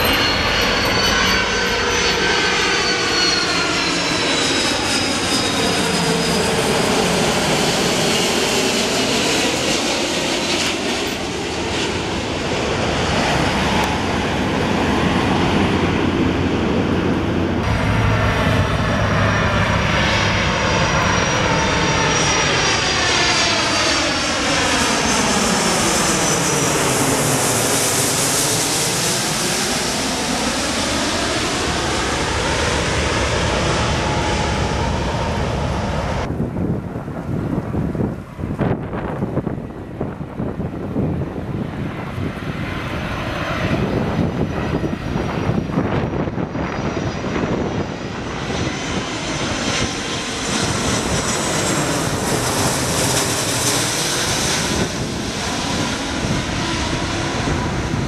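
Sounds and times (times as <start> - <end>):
high fan whine: 0.0 - 58.0
jet airliner passing overhead: 0.0 - 58.0.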